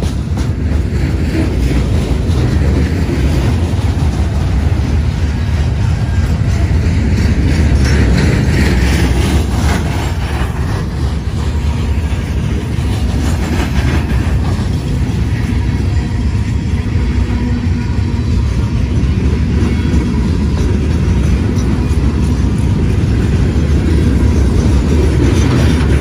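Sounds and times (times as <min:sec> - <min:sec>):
steel wheels rumbling on rail: 0:00.0 - 0:26.0
train clattering: 0:00.0 - 0:26.0.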